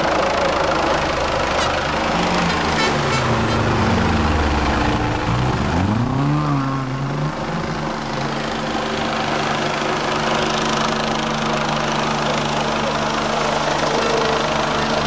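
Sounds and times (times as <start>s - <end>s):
helicopter flying overhead: 0.0s - 5.9s, 7.2s - 15.0s.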